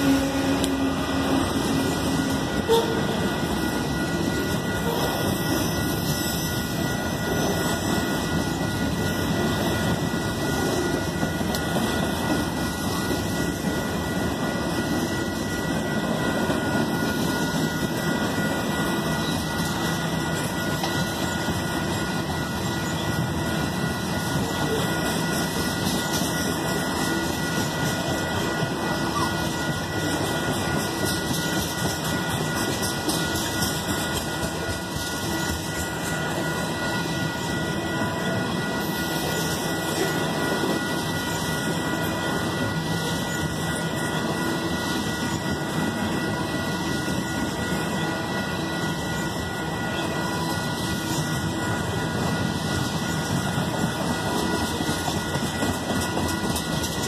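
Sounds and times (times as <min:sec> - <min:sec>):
freight train wheels on rail: 0:00.0 - 0:57.0
steady high tone: 0:00.0 - 0:57.0.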